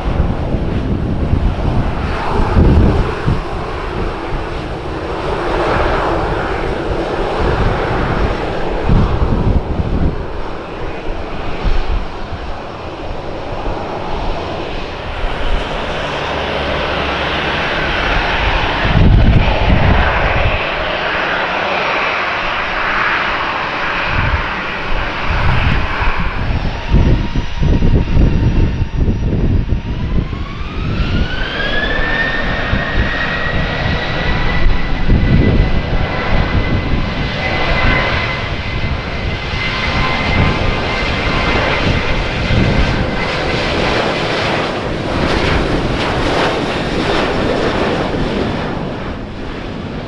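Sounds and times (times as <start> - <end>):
jet engine fan whine: 0.0 - 50.0
loud jet roar: 0.0 - 50.0
wind buffeting microphone: 0.0 - 50.0.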